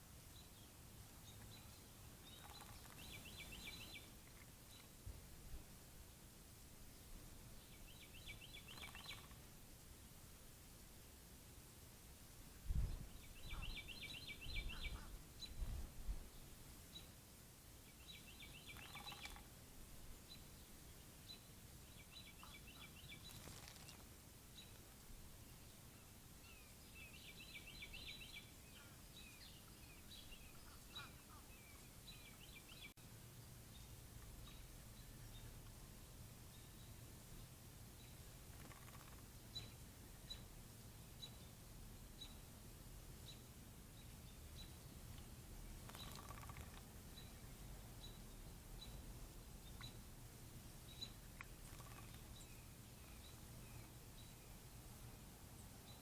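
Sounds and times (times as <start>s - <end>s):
faint songbirds chirping: 0.0s - 56.0s
low steady hum: 0.0s - 56.0s.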